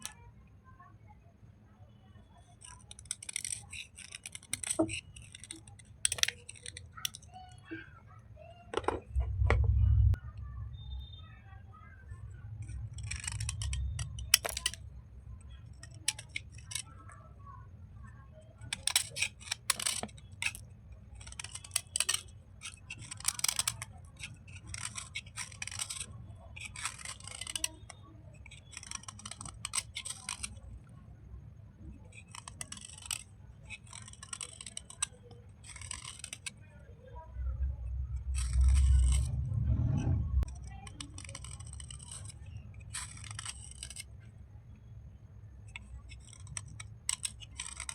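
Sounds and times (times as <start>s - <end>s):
wet chalk being scraped and scrubbed: 2.4s - 7.9s, 12.2s - 17.2s, 18.4s - 31.0s, 31.8s - 44.8s, 45.7s - 47.9s
low rumble of handling: 2.7s - 47.9s.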